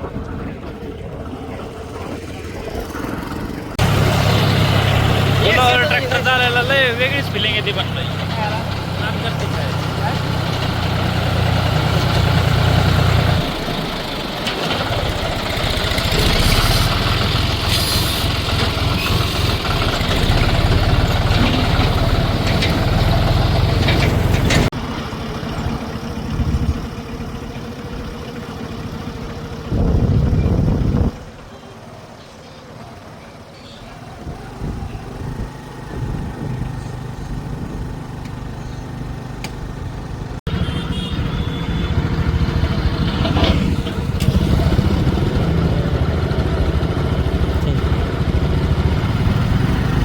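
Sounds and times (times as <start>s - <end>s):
tractor diesel engine rumbling: 0.0s - 50.0s.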